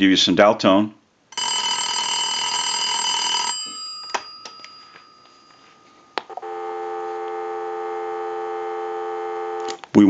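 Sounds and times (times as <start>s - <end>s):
telephone ringing: 1.3s - 9.8s
steady dial tone: 1.4s - 9.8s.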